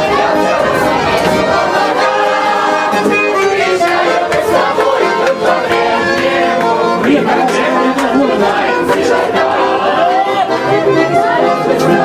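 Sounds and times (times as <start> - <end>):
accordion playing held chords: 0.0 - 12.0
crowd noise: 0.0 - 12.0.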